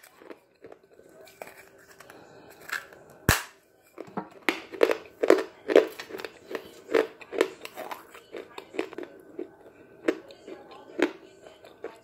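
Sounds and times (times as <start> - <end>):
chewing crunches: 0.0 - 3.3, 4.0 - 12.0.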